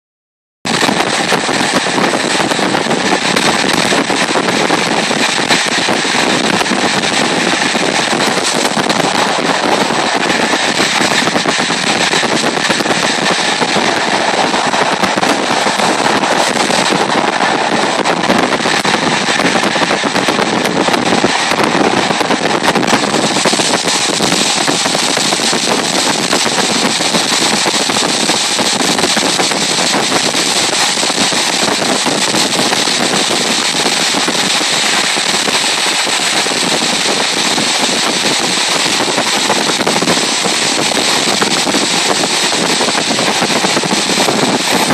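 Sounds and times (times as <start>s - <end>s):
dense crackle: 0.7s - 44.9s
train rushing and rumbling: 0.7s - 44.9s.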